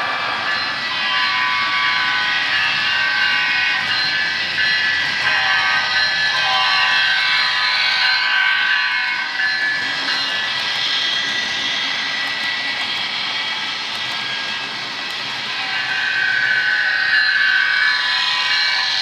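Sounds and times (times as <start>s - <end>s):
model train high tones: 0.0s - 19.0s.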